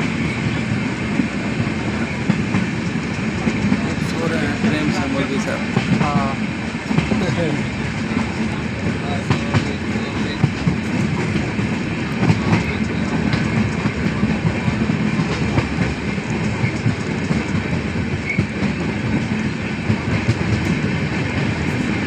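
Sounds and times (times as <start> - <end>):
train rumbling on track: 0.0 - 22.0.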